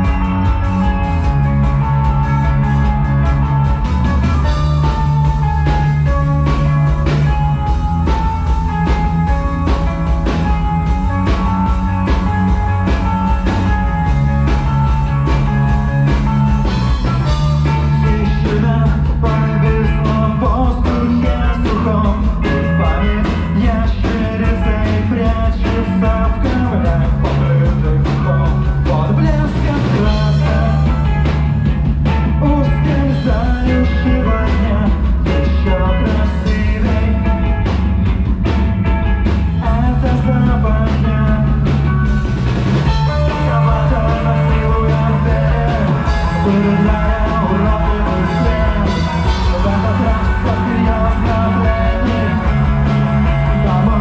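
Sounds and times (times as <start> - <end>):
drums: 0.0 - 54.0
guitar lines: 0.0 - 54.0
held bass notes: 0.0 - 54.0
rock band playing live: 0.0 - 54.0.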